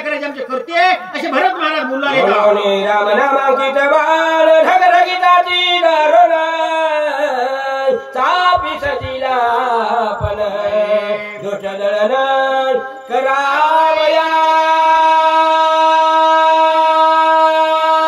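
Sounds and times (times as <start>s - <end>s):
person singing devotional verse: 0.0s - 18.0s.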